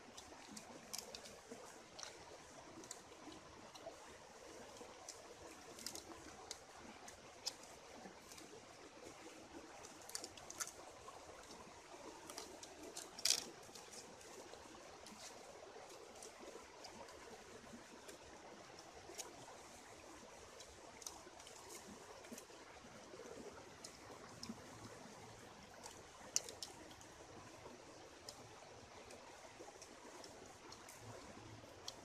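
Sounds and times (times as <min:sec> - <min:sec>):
stream trickling: 0:00.0 - 0:32.0.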